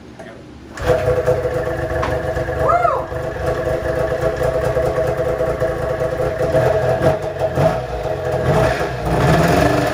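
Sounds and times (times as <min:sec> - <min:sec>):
two-stroke snowmobile engine running: 0:00.8 - 0:09.9.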